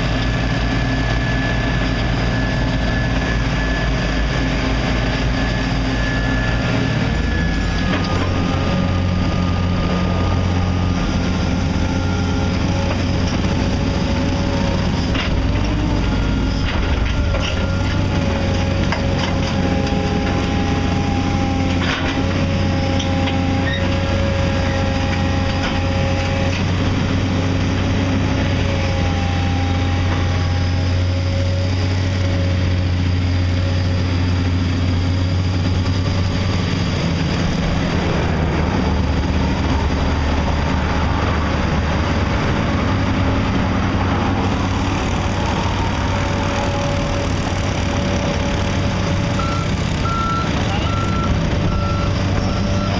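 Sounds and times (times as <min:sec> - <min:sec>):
construction machinery engine hum: 0:00.0 - 0:52.9.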